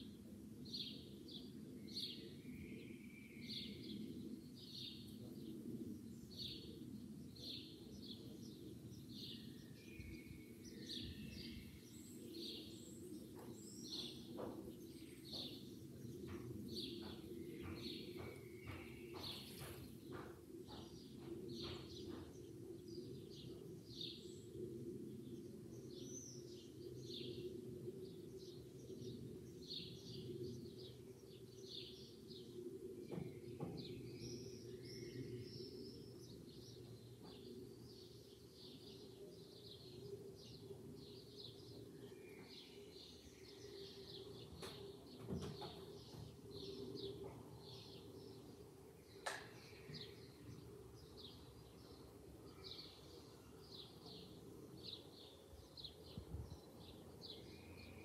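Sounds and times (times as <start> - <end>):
small birds chirping: 0.8 - 58.0.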